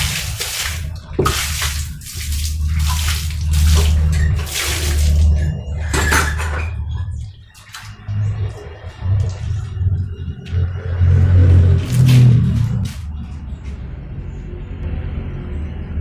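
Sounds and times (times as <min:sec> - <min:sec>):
water splashing onto tiled floor: 0:00.0 - 0:13.0
steady low hum: 0:00.0 - 0:15.5.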